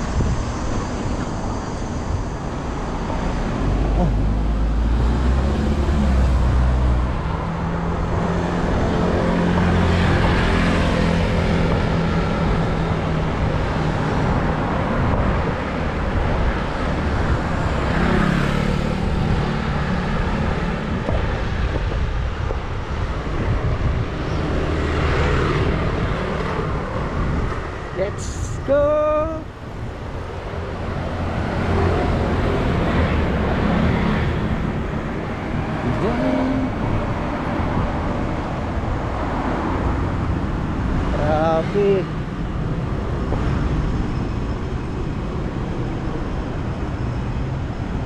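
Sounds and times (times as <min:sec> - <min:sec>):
road traffic passing close by: 0:00.0 - 0:48.0.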